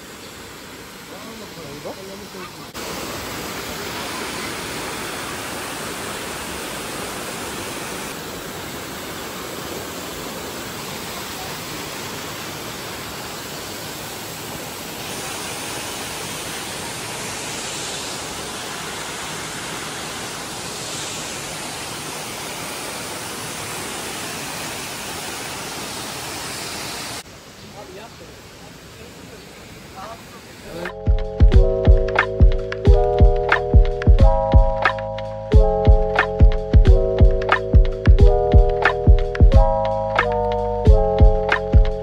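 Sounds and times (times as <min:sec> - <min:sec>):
waterfall rushing: 0:00.0 - 0:33.8.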